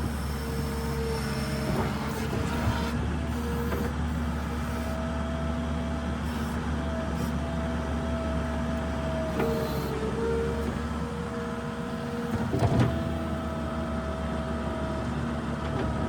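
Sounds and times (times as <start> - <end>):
skid steer diesel engine: 0.0 - 16.0.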